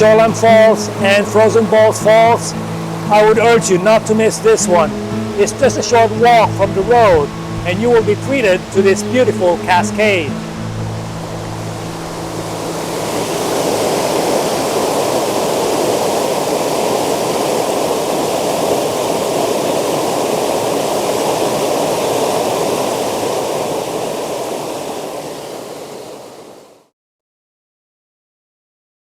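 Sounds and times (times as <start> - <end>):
water rushing over rock: 0.0 - 26.9.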